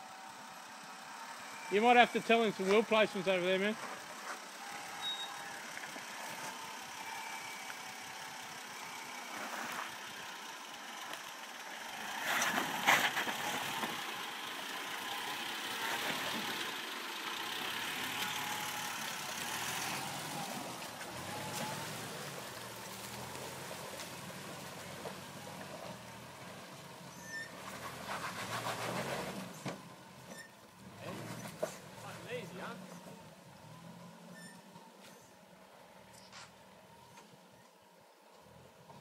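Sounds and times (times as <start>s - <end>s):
vehicle engine running: 0.0s - 37.7s.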